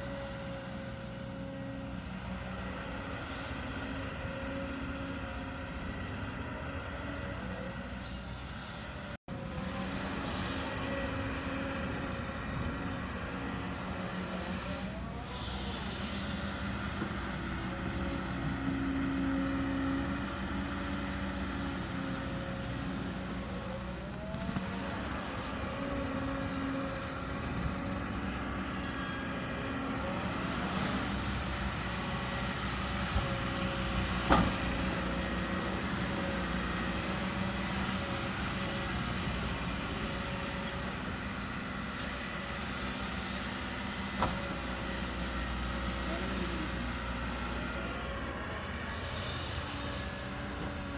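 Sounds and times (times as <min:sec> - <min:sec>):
hydraulic whines: 0:00.0 - 0:42.7
excavator diesel engine running: 0:00.0 - 0:50.9.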